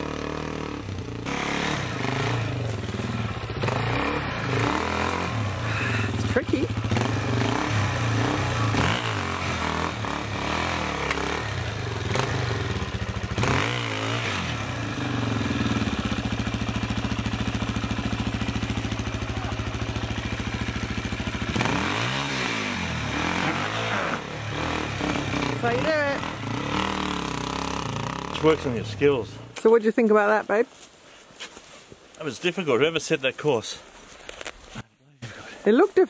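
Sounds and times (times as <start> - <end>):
motorcycle engine revving: 0.0 - 29.7.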